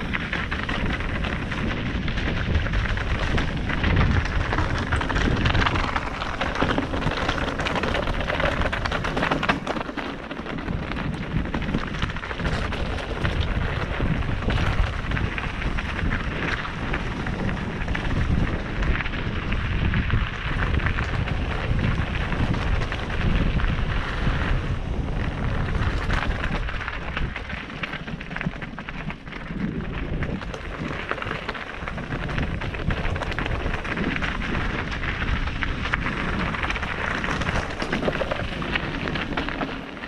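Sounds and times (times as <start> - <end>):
bike rattling: 0.0 - 40.0
tyres crunching on gravel: 0.0 - 40.0
wind buffeting microphone: 0.0 - 40.0.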